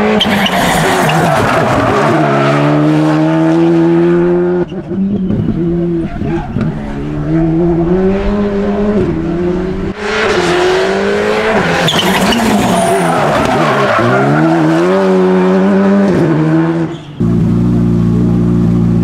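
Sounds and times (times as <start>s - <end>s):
tyres skidding on asphalt: 0.0s - 3.8s, 4.6s - 17.2s
car engine revving: 0.0s - 19.0s.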